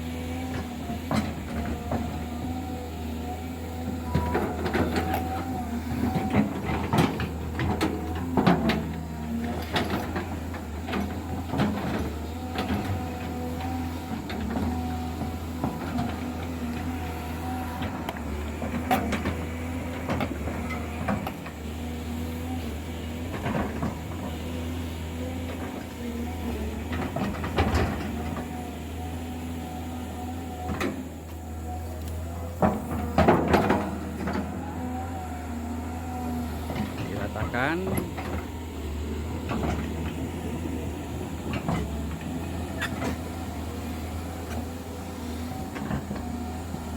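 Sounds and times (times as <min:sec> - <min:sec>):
earthmoving machine diesel engine: 0:00.0 - 0:46.9.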